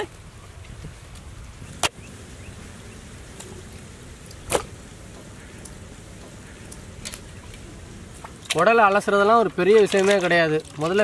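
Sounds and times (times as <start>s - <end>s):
steady faint hiss: 0.0s - 11.0s.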